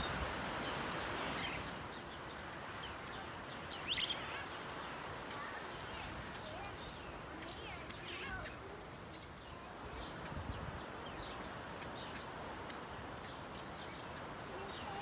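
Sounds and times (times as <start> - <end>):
small birds twittering: 0.0 - 15.0
steady background hiss: 0.0 - 15.0.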